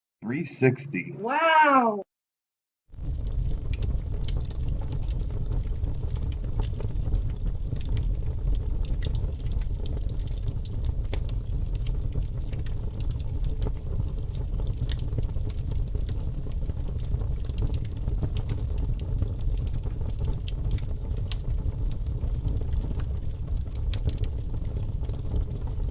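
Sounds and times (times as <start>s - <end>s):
wood crackling and popping: 3.0s - 25.9s.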